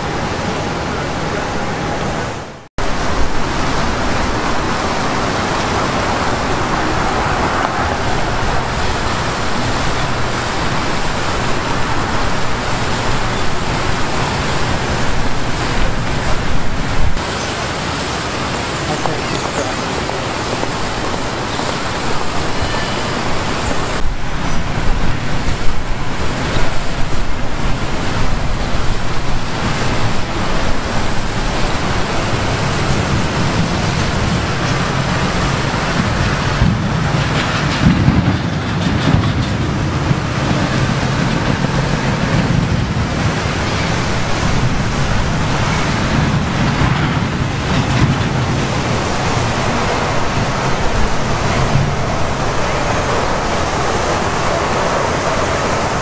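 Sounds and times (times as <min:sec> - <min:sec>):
fountain water splashing: 0:00.0 - 0:56.0.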